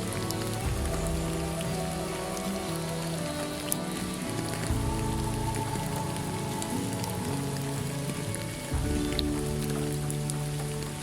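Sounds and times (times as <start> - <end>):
soft low musical tones: 0.0 - 11.0
steady rain: 0.0 - 11.0.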